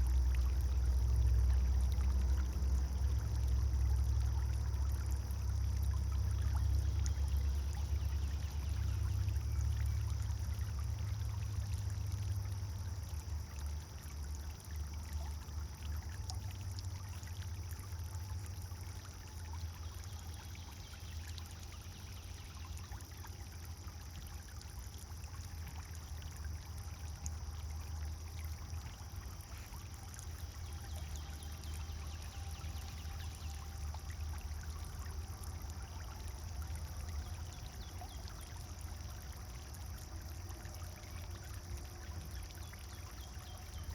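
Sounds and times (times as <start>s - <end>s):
fountain splashing into water: 0.0s - 43.9s.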